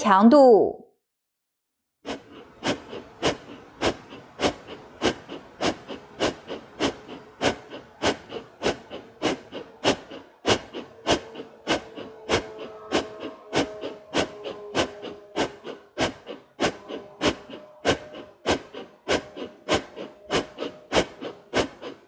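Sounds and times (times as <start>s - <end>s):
forceful rhythmic nasal breathing: 2.0s - 22.0s.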